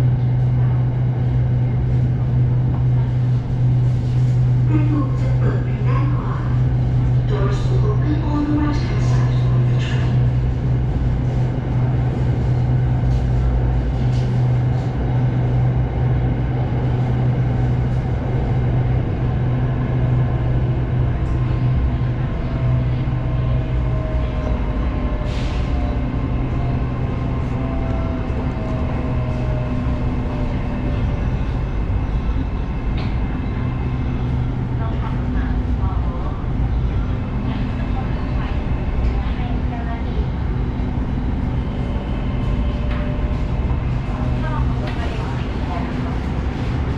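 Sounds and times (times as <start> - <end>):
electric train rumbling: 0.0 - 46.9.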